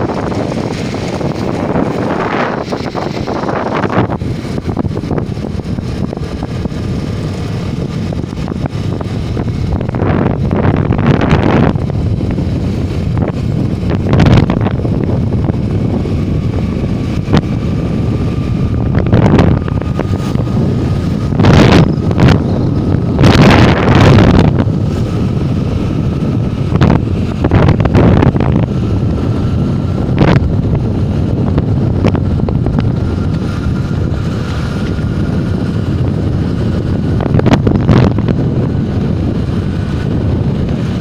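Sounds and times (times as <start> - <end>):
moving vehicle rumble: 0.0 - 41.0
wind buffeting microphone: 0.0 - 41.0.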